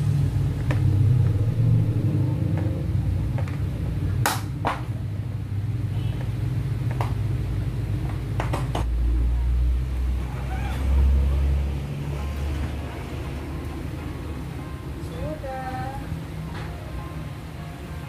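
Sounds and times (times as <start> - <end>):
steady low rumble: 0.0 - 17.7.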